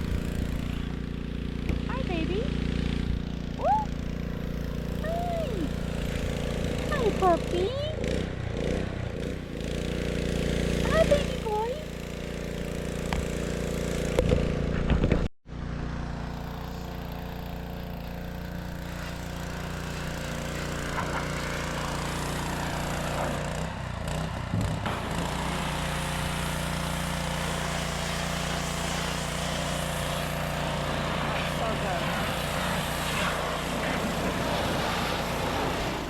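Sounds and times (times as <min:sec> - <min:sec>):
small petrol engine running: 0:00.0 - 0:36.0.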